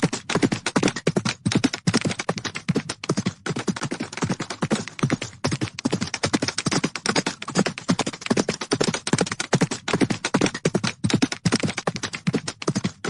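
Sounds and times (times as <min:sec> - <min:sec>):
horses galloping: 0:00.0 - 0:13.0.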